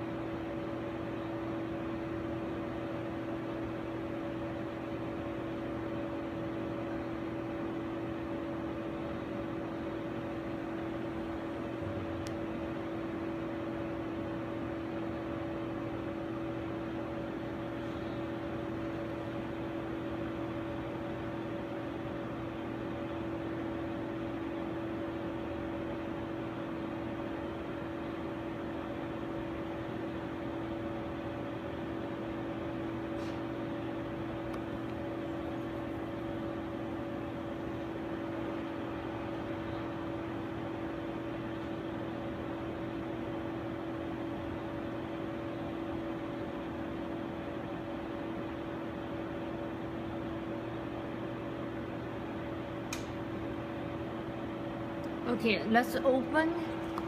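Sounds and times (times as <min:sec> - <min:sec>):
machine hum with fan whir: 0:00.0 - 0:57.0.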